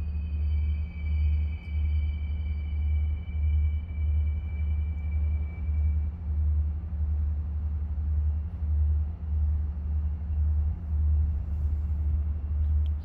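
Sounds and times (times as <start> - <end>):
faint steady hum: 0.0 - 13.0
low droning rumble: 0.0 - 13.0.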